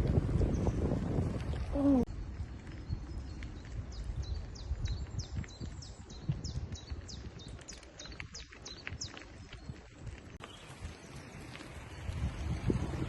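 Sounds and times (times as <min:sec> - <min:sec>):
small birds chirping: 0:00.5 - 0:11.7.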